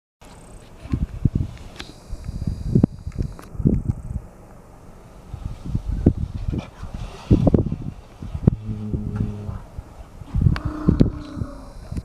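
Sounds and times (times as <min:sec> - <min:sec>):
wind buffeting microphone: 0:00.8 - 0:04.4, 0:05.2 - 0:12.0.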